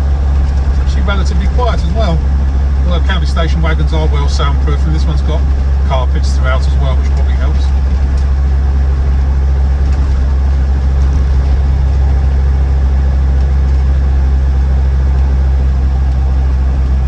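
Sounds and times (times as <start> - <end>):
car interior engine drone: 0.0 - 17.0.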